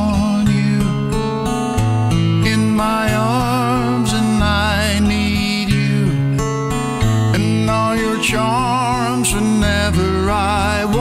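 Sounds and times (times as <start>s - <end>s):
acoustic guitar strumming: 0.0s - 11.0s
man singing: 0.0s - 11.0s.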